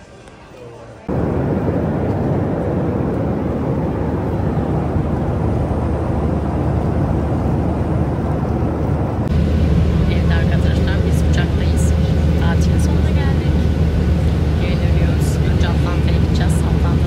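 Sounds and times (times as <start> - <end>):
jet cabin engine noise: 1.0 - 17.0.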